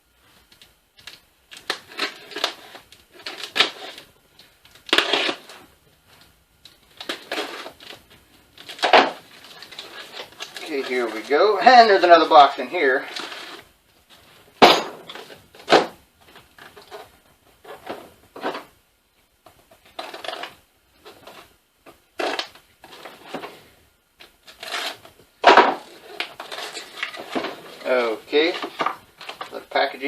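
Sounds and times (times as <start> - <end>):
cardboard rustling and scraping: 1.5 - 18.8, 19.5 - 30.0.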